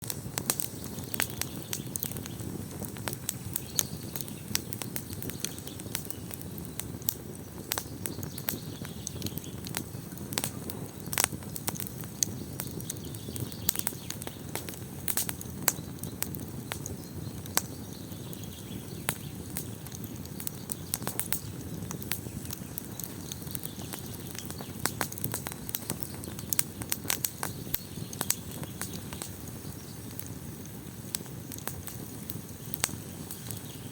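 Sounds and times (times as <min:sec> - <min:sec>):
burning wood crackling and popping: 0:00.0 - 0:33.9
flames rumbling: 0:00.0 - 0:33.9.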